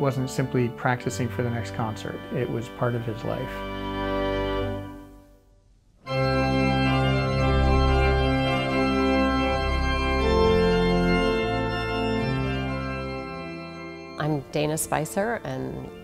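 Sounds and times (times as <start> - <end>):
pipe organ chords: 0.0 - 5.4, 6.0 - 16.0.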